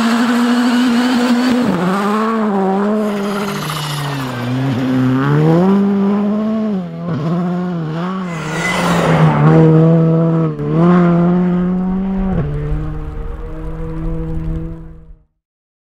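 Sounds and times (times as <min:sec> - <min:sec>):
rally car engine at high revs: 0:00.0 - 0:15.2
rushing noise of passing car: 0:01.4 - 0:15.2.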